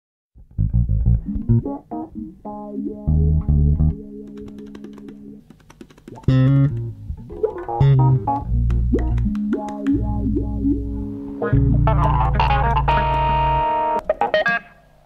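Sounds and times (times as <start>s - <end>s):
instrumental theme music: 0.4s - 14.8s.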